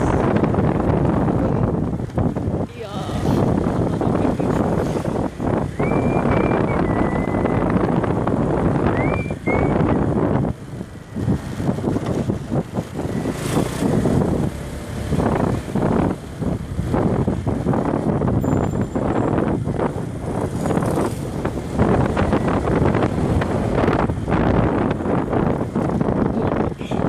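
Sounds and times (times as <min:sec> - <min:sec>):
motorbike engine: 0:00.0 - 0:27.0
road noise: 0:00.0 - 0:27.0
wind on microphone: 0:00.0 - 0:27.0.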